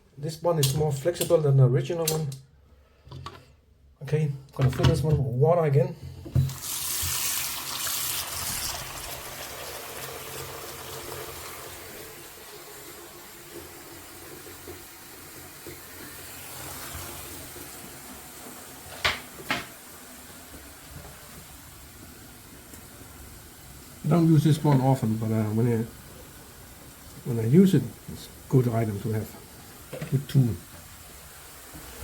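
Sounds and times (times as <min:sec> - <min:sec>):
tap water running into sink: 0:06.3 - 0:32.0.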